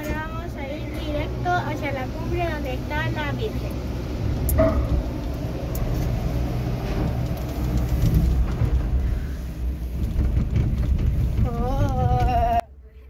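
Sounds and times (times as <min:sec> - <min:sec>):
cable car cabin rumble and rattle: 0:00.0 - 0:13.0.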